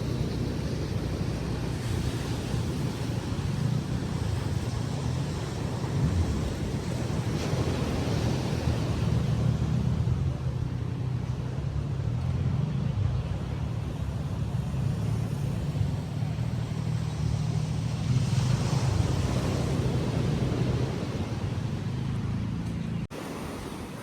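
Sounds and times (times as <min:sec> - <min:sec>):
small waves breaking on beach: 0:00.0 - 0:24.0
wind buffeting microphone: 0:00.0 - 0:24.0.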